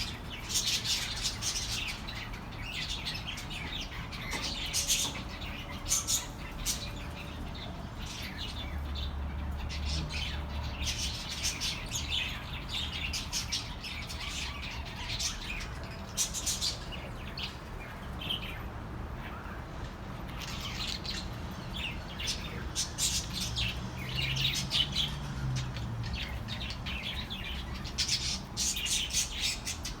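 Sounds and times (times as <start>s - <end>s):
budgerigars chirping: 0.0s - 19.6s, 20.3s - 30.0s.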